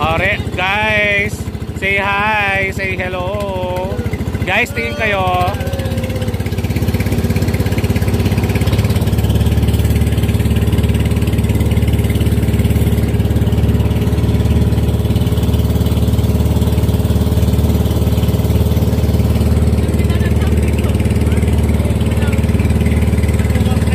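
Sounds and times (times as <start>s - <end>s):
boat engine running: 0.0s - 23.9s.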